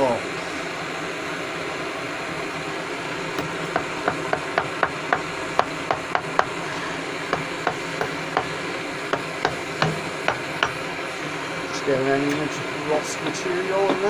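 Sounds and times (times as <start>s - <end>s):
furnace whirring hum: 0.0s - 14.0s.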